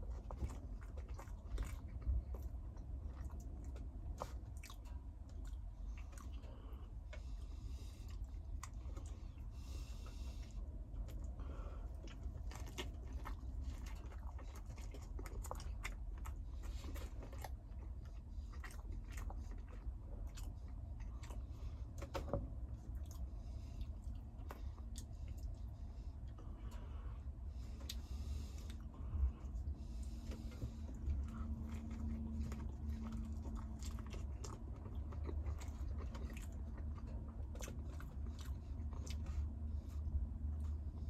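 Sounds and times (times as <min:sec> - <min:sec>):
low hum: 0:00.0 - 0:41.0
person chewing and crunching food: 0:00.0 - 0:41.0.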